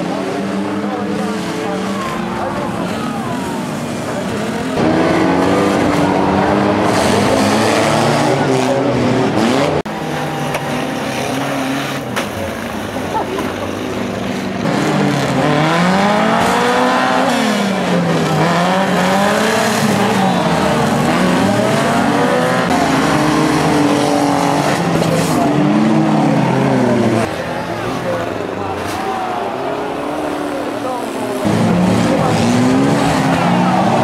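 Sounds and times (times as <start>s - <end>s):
cars crashing: 0.0s - 34.0s
race car engines revving: 0.0s - 34.0s.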